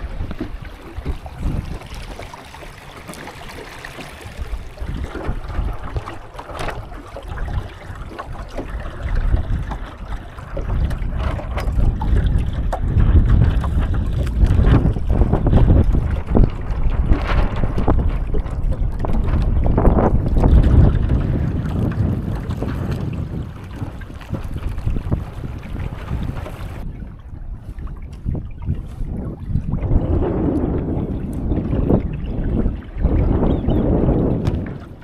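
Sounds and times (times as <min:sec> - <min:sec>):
water slapping against hull: 0:00.0 - 0:35.0
wind buffeting microphone: 0:00.0 - 0:35.0.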